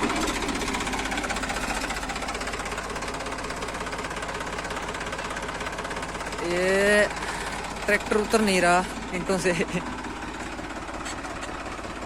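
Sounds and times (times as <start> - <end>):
tractor diesel engine knocking: 0.0 - 12.0.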